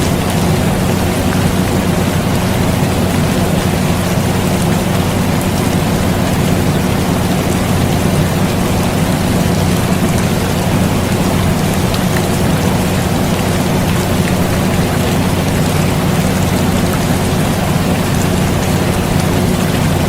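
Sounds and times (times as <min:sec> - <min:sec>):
air conditioner hum: 0:00.0 - 0:20.0
steady rain: 0:00.0 - 0:20.0.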